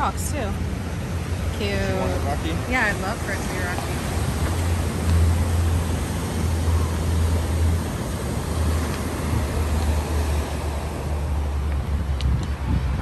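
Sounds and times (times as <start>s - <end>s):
wind rumble on microphone: 0.0s - 13.0s
waves breaking on pebble beach: 0.8s - 11.7s.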